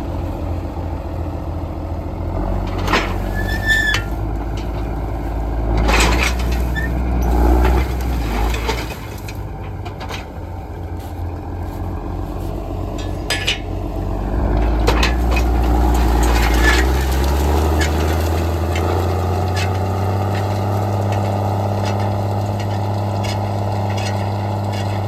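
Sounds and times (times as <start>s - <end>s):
diesel engine deep rumble: 0.0s - 25.0s.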